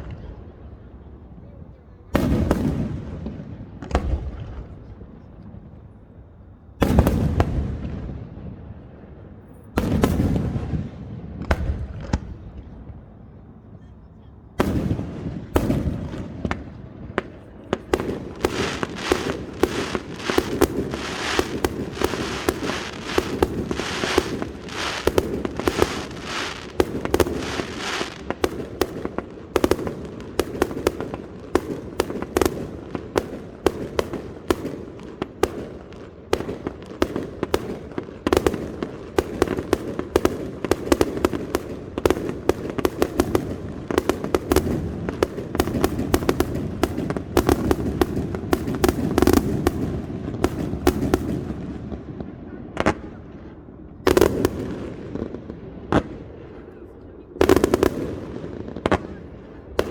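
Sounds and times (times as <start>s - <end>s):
fireworks bursting and crackling: 0.0s - 1.1s, 2.0s - 6.0s, 6.6s - 56.5s, 57.3s - 59.9s.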